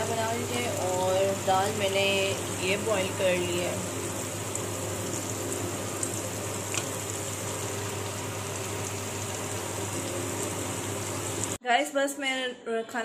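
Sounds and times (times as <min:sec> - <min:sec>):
cooking hiss on stove: 0:00.0 - 0:11.6.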